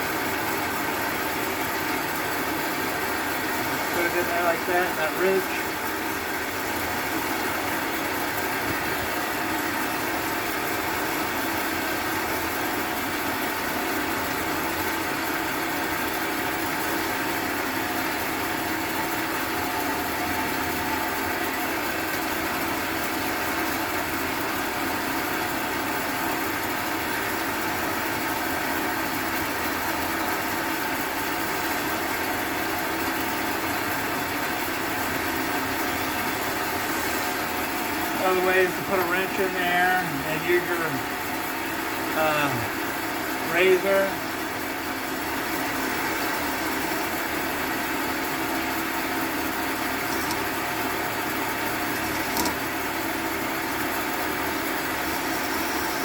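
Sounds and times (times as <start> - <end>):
small electric motor running: 0.0 - 56.0.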